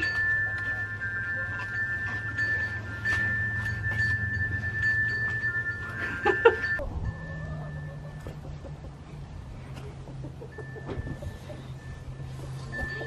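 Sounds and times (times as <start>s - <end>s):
wind chime ringing: 0.0s - 8.5s, 10.4s - 13.0s
steady low rumble: 0.0s - 12.8s.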